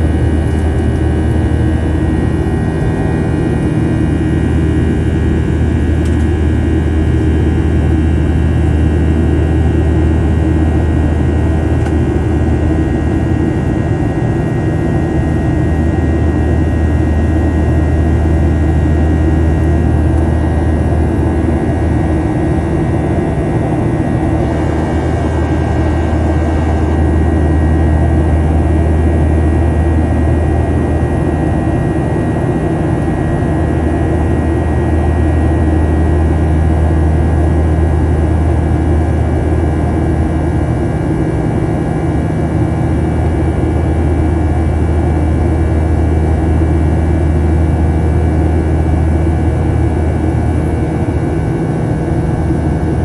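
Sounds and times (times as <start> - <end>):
jet engines droning: 0.0 - 53.0.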